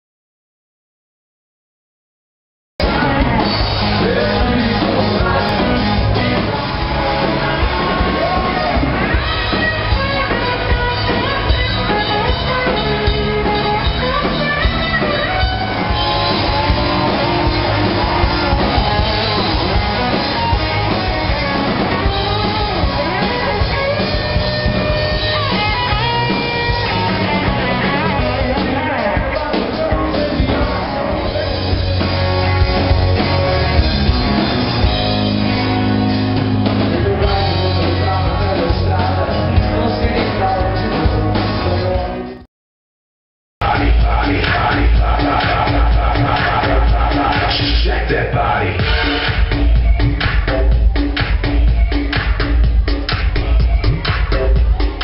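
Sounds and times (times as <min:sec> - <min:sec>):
person singing: 0:02.8 - 0:31.9, 0:36.7 - 0:42.4, 0:43.6 - 0:55.0
rock band playing: 0:02.8 - 0:42.5, 0:43.6 - 0:55.0.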